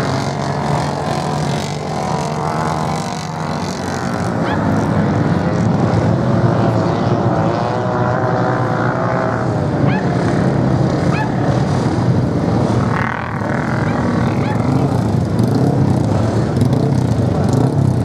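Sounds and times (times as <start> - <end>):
racing motorcycle engines: 0.0 - 18.0.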